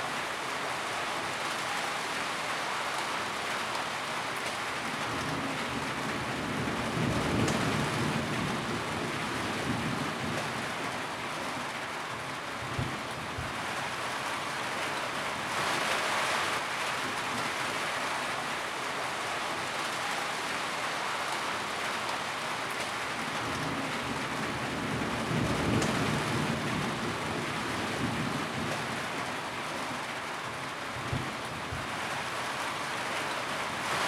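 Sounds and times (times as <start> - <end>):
rain drumming on a tin roof: 0.0 - 34.0.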